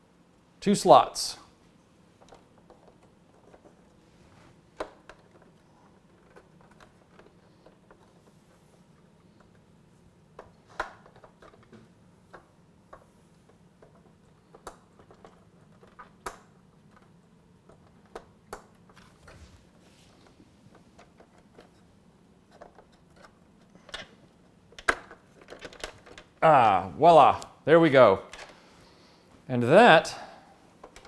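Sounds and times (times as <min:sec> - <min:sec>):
faint room hum: 0:00.0 - 0:31.0.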